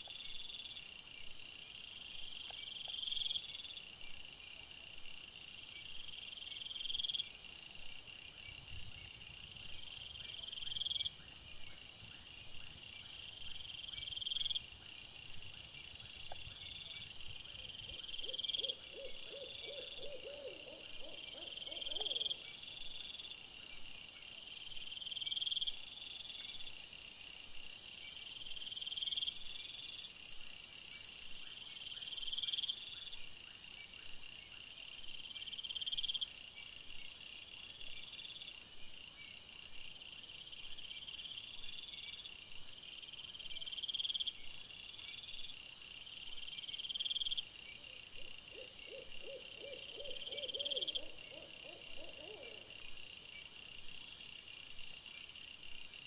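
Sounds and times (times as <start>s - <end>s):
night insects chirping: 0.0s - 56.0s.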